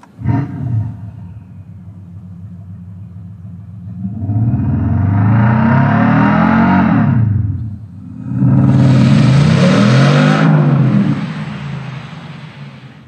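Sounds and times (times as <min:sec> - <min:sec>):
simulated engine revving: 0:00.0 - 0:13.0.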